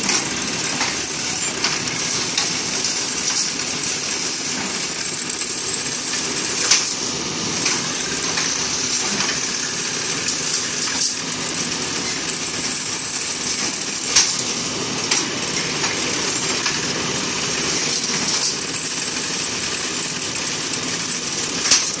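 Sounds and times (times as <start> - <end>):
machine drone with high whine: 0.0 - 22.0.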